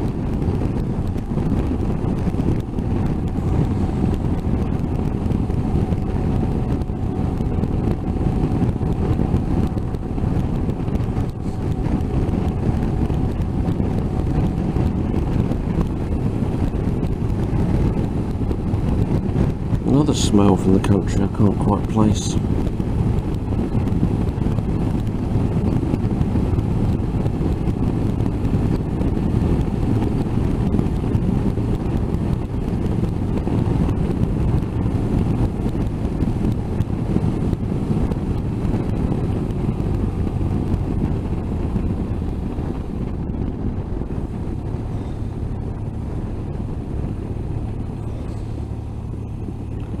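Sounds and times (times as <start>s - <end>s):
motorcycle engine hum: 0.0s - 50.0s
wind rushing on microphone: 0.0s - 50.0s.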